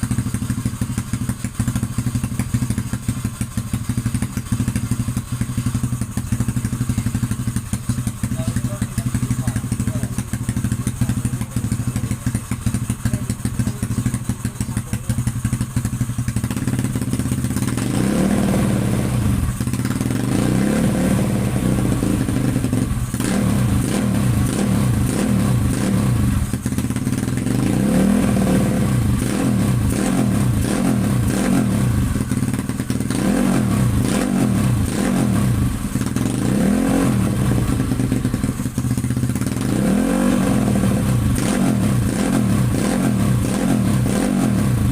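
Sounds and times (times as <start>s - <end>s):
motorcycle engine idling: 0.0s - 44.9s
motorcycle engine revving: 0.0s - 44.9s.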